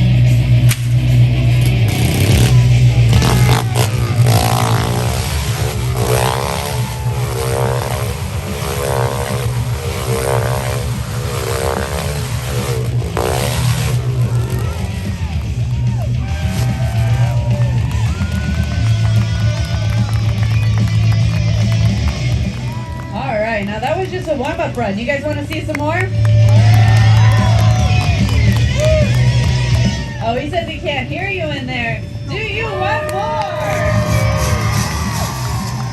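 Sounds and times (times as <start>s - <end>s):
rock music with heavy bass: 0.0s - 24.0s, 26.2s - 35.9s
motorcycle engines revving: 0.0s - 35.9s.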